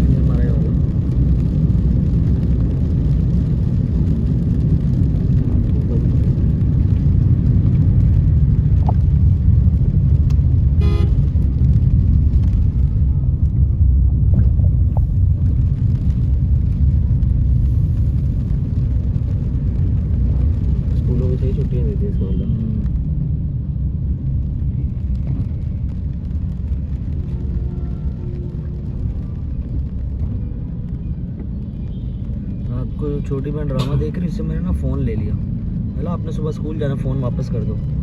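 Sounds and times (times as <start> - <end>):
vehicle driving on wet road: 0.0 - 38.0.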